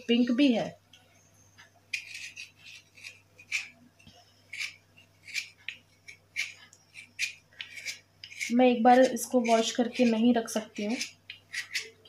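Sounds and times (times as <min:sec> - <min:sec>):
knife scraping stone: 0:01.9 - 0:12.0.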